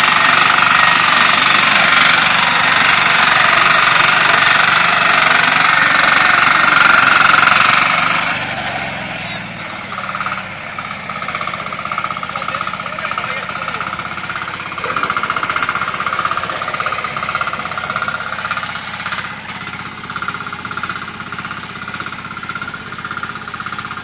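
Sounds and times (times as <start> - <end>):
harvester engine and cutter running: 0.0 - 24.0.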